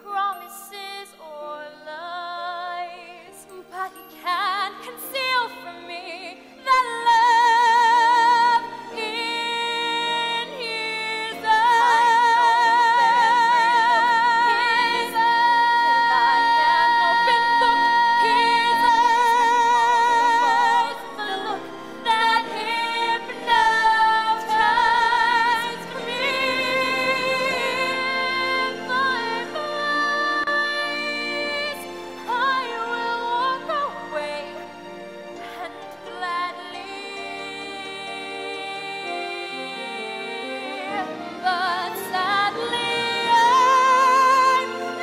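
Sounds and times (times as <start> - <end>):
musical accompaniment: 0.0 - 45.0.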